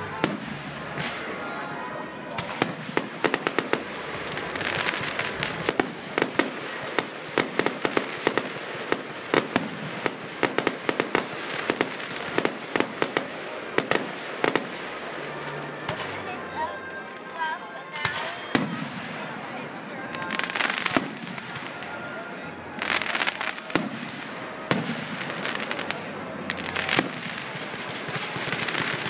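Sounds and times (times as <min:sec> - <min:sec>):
background noise: 0:00.0 - 0:29.0
fireworks bursting: 0:00.0 - 0:29.0.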